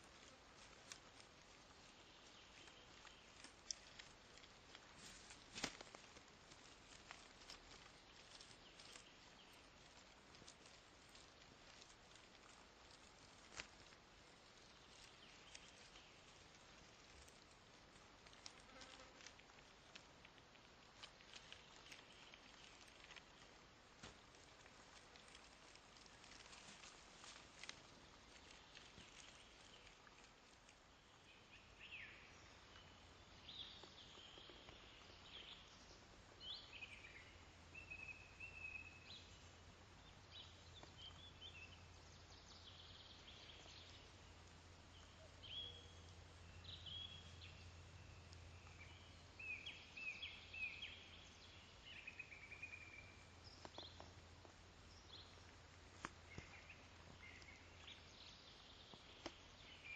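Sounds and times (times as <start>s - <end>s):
faint birdsong chirps: 0.0s - 59.9s.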